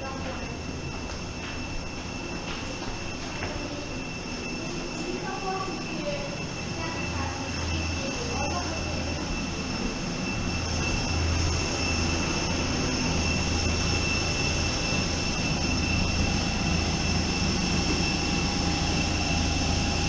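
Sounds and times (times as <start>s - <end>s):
jet airliner whine and rumble: 0.0s - 20.0s.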